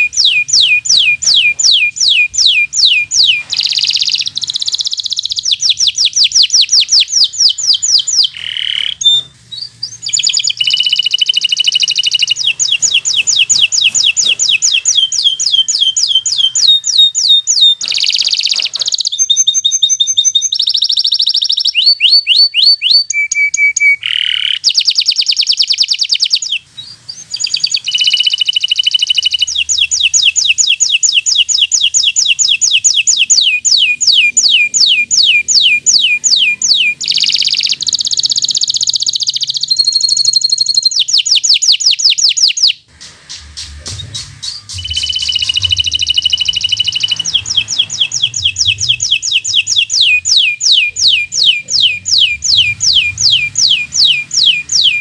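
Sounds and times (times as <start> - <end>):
canary singing trills: 0.0 - 42.9, 43.8 - 55.0.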